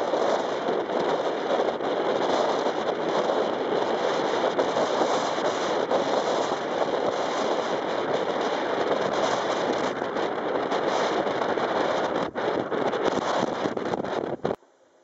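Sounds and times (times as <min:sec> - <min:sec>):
blizzard wind and snow hiss: 0:00.0 - 0:15.0.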